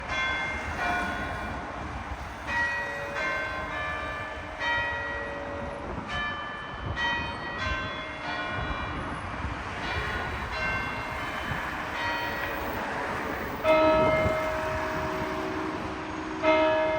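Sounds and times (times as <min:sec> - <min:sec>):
church bells ringing: 0:00.0 - 0:09.1, 0:09.8 - 0:16.9.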